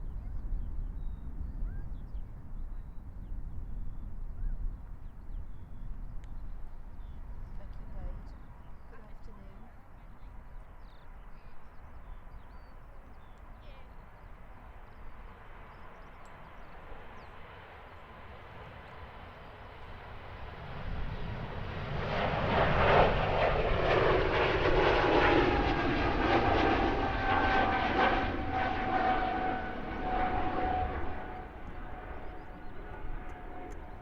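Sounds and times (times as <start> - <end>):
airliner engines passing by: 0.0 - 34.0.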